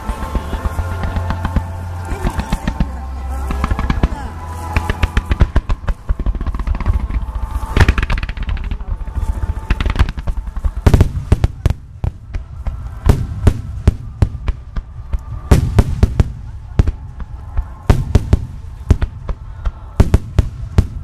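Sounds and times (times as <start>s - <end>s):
fireworks bangs and crackles: 0.0s - 21.0s
heavy fireworks booms: 0.0s - 21.0s.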